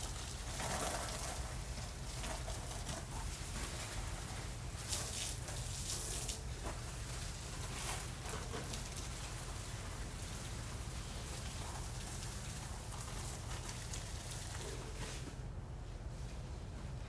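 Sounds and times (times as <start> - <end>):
garden hose spraying water: 0.0 - 15.3.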